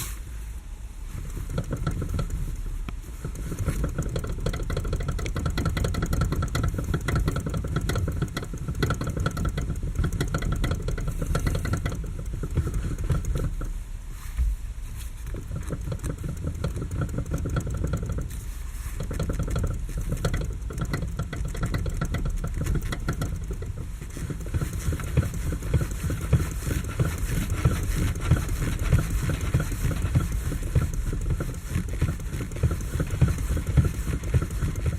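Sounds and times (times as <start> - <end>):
car steering knocking: 1.2 - 13.8, 15.3 - 34.9.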